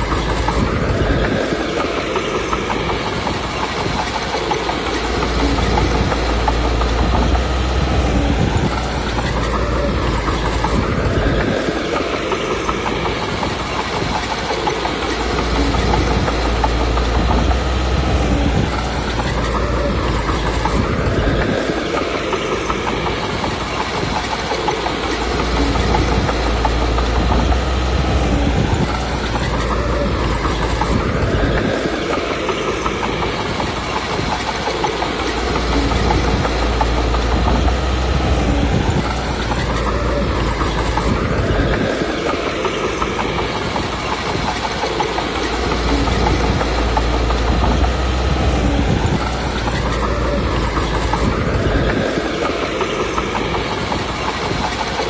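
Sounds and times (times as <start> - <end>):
bulldozer diesel engine: 0.0 - 55.0
steel tracks clattering: 0.0 - 55.0.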